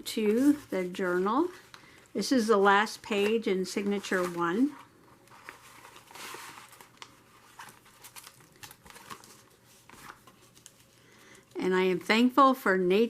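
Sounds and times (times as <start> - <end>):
paper and plastic rustling: 0.1 - 11.6.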